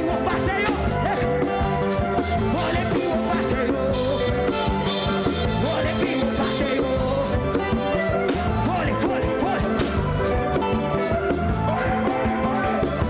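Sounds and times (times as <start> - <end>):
church band music: 0.0 - 13.0
drum kit beat: 0.0 - 13.0
person singing: 0.0 - 13.0.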